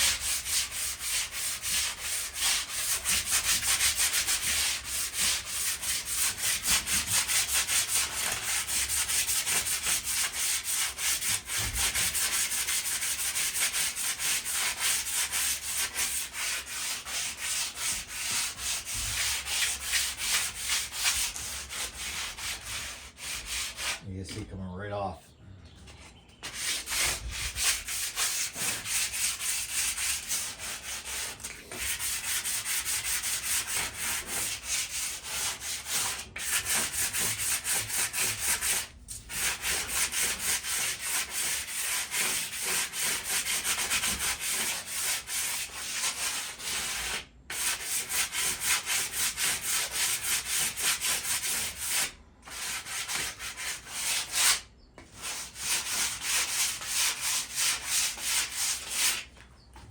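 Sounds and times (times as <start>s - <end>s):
sanding scraping on metal: 0.0s - 24.0s, 26.4s - 59.3s.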